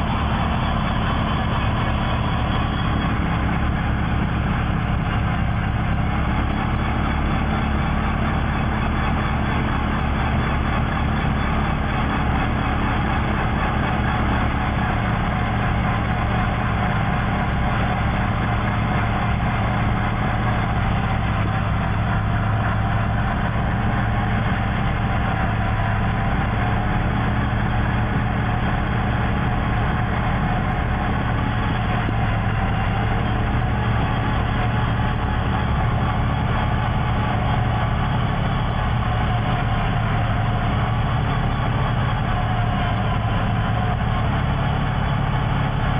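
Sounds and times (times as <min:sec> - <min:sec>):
heavy vehicle engine droning: 0:00.0 - 0:45.9.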